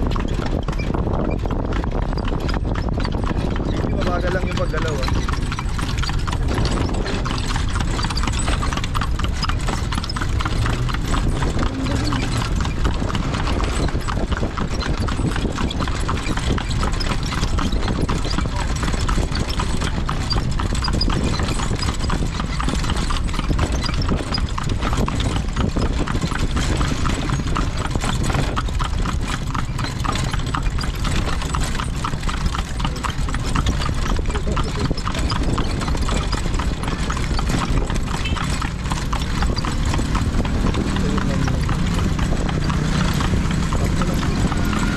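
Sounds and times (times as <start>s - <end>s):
carriage rolling rumble: 0.0s - 44.9s
horse hooves clip-clopping on road: 0.0s - 44.9s.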